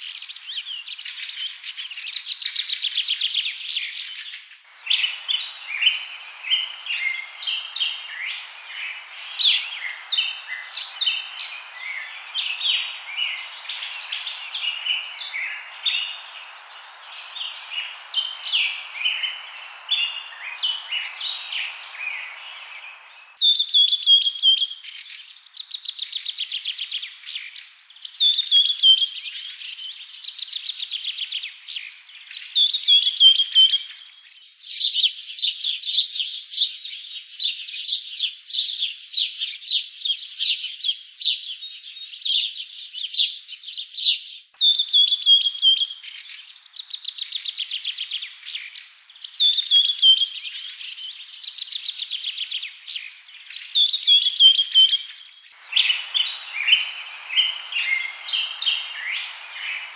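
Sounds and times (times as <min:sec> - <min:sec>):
soft hiss: 0:00.0 - 0:38.8, 0:39.4 - 0:59.9
songbirds singing and chirping: 0:00.0 - 0:59.9.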